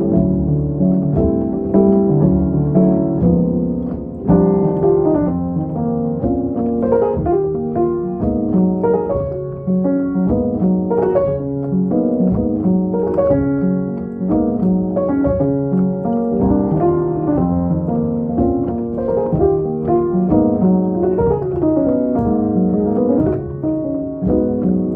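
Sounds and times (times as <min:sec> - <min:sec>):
jazz piano: 0:00.0 - 0:24.9.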